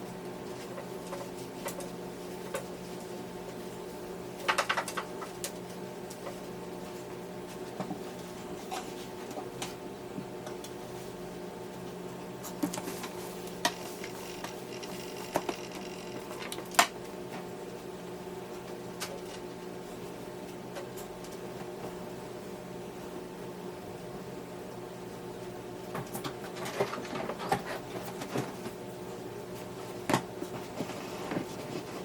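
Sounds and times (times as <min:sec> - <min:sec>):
appliance humming: 0:00.0 - 0:32.0.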